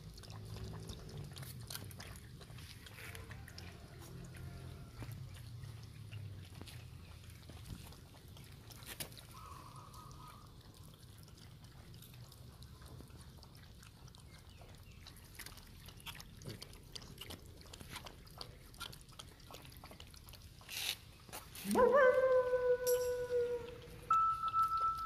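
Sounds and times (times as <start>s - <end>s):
puppies lapping yogurt: 0.0s - 25.0s.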